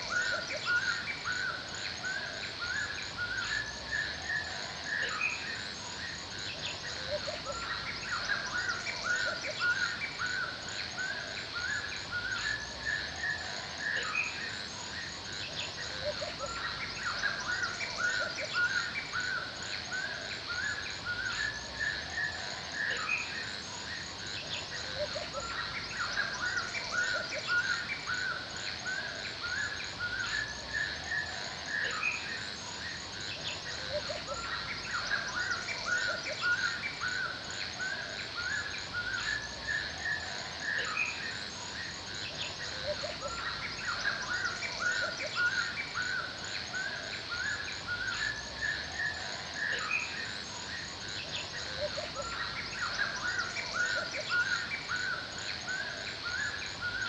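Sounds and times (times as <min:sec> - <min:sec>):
high insect chorus: 0:00.0 - 0:57.0
small birds chirping: 0:00.0 - 0:57.0.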